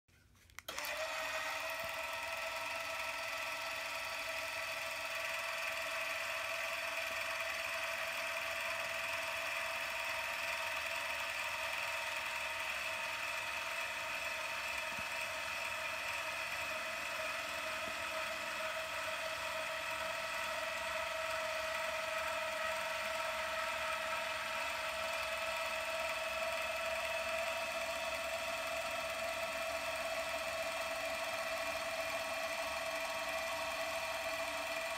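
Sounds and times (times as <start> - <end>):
actuator motor whine: 0.6 - 34.9.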